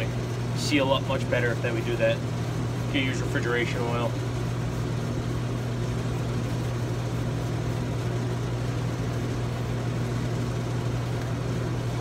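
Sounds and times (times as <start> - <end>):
machinery droning: 0.0 - 12.0.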